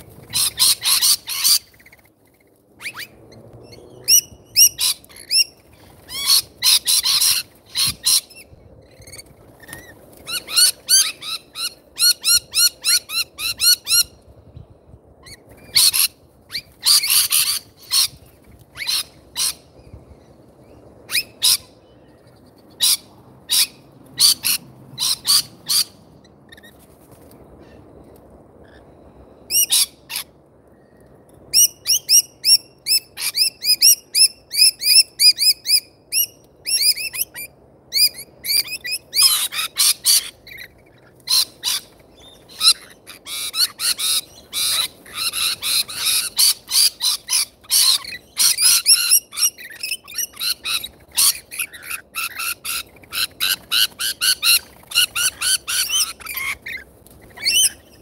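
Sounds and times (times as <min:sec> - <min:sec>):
shrill screeching of birds: 0:00.2 - 0:14.1, 0:15.3 - 0:19.7, 0:22.8 - 0:26.8, 0:31.6 - 0:58.0.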